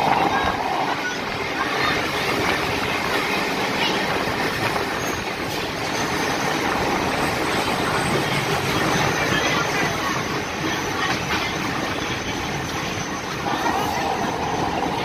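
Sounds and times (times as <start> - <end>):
train wheels rushing on rails: 0.0 - 15.0
wind noise: 0.0 - 15.0.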